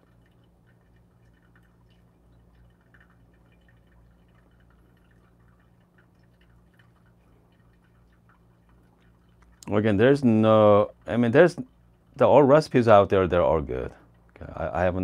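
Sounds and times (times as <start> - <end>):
low steady hum: 0.0 - 15.0
water trickling: 0.0 - 15.0.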